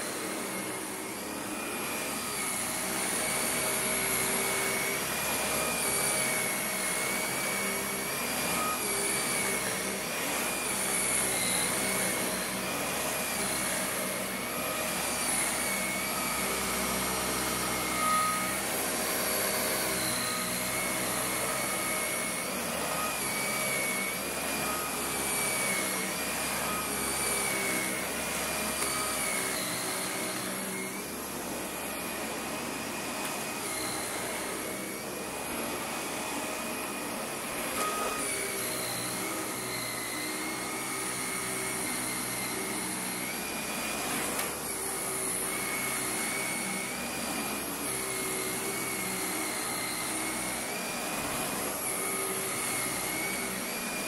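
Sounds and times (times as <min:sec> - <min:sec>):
vacuum cleaner motor whine: 0:00.0 - 0:54.0.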